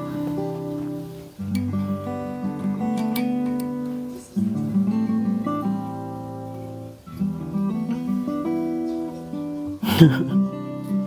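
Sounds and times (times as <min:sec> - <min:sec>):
acoustic guitar plucked notes: 0:00.0 - 0:11.0.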